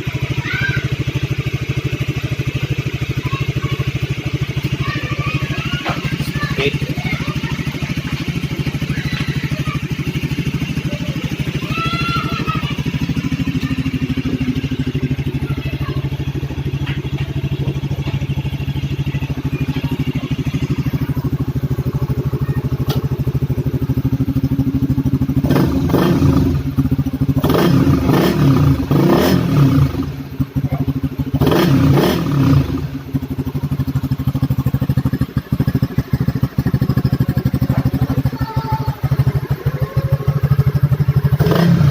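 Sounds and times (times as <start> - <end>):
motorcycle engine idling: 0.0 - 41.9
motorcycle throttle blips: 1.4 - 41.9.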